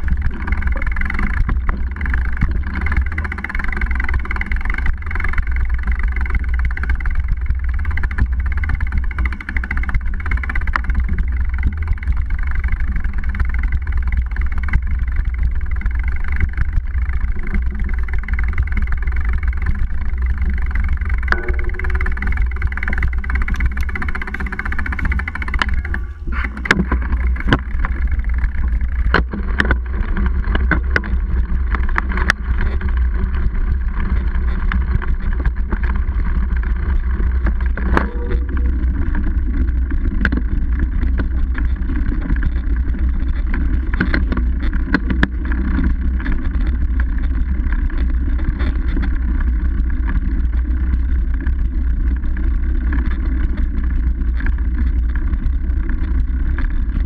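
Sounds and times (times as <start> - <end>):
bike knocks and rattles: 0.0 - 57.0
wind and riding vibration: 0.0 - 57.0.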